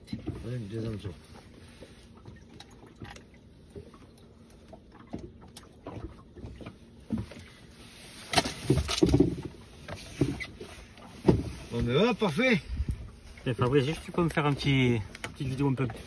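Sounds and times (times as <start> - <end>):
water lapping against boat hull: 0.0 - 16.0
water slaps and thumps: 0.0 - 16.0.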